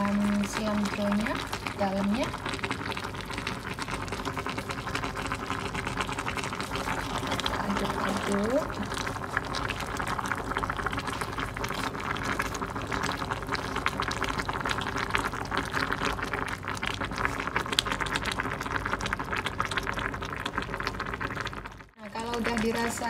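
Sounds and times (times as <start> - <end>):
soup bubbling: 0.0 - 23.0.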